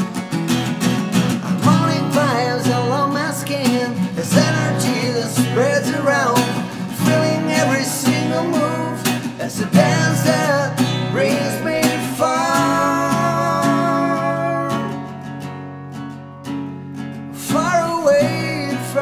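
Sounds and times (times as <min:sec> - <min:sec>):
acoustic guitars strummed: 0:00.0 - 0:19.0
man singing: 0:01.4 - 0:15.2, 0:17.4 - 0:19.0.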